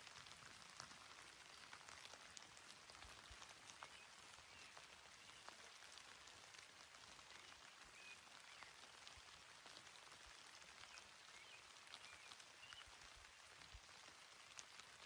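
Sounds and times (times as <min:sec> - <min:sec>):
gentle rain patter: 0:00.0 - 0:15.0.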